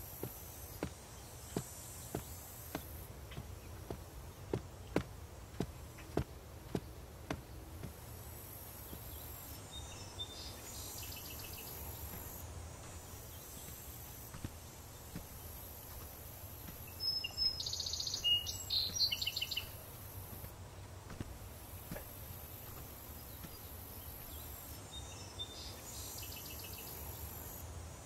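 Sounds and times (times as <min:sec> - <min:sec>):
high insect hiss: 0:00.0 - 0:28.0.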